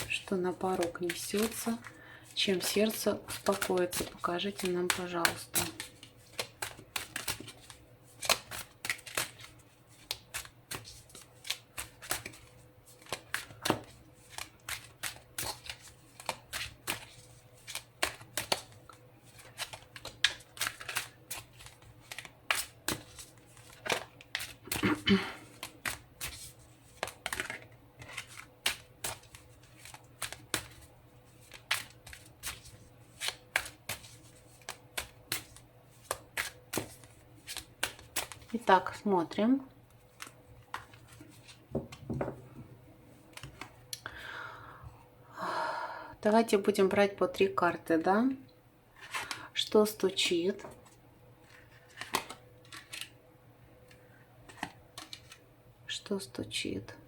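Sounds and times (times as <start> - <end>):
cards being shuffled by hand: 0.0 - 43.8, 50.6 - 53.2, 53.9 - 55.4.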